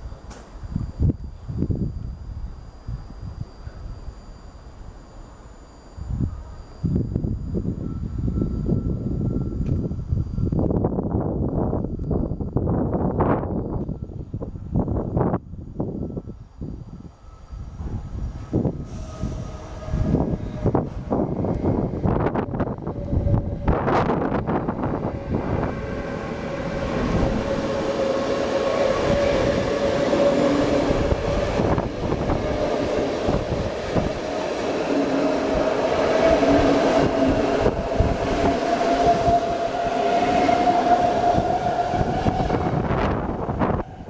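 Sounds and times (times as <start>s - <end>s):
electric locomotive passing: 0.0s - 44.0s
train wheels rumbling on rail: 6.2s - 44.0s.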